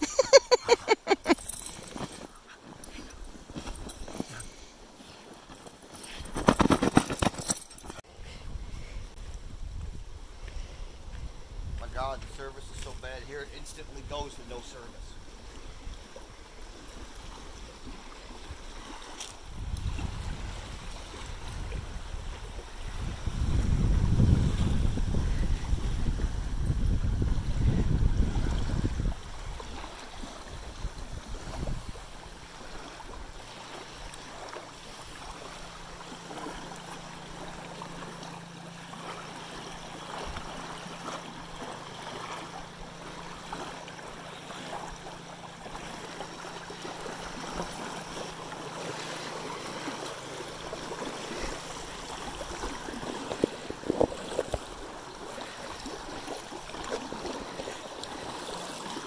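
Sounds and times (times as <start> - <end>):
light wind: 0.0 - 59.0
small waves lapping on shore: 10.1 - 59.0.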